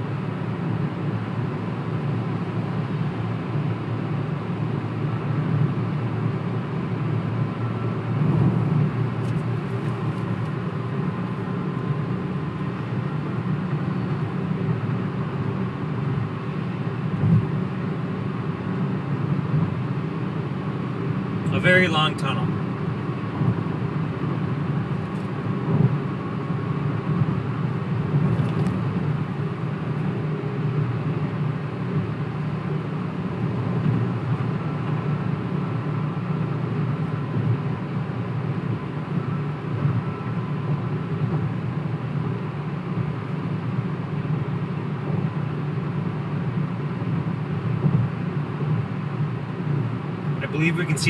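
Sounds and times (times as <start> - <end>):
car tyres and engine rumbling: 0.0 - 51.0.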